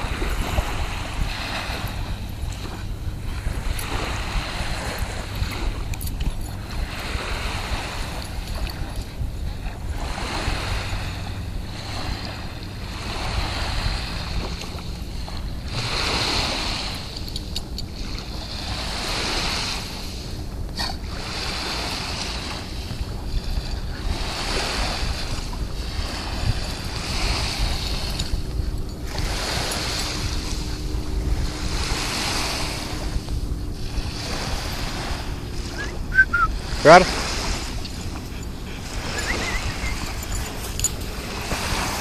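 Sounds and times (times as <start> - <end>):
small waves washing onto shore: 0.0 - 42.0
wind buffeting microphone: 0.0 - 42.0.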